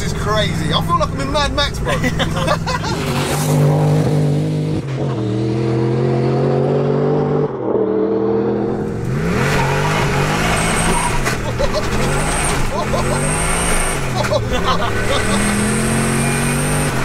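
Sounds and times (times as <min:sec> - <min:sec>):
car engine revving under load: 0:02.5 - 0:17.0.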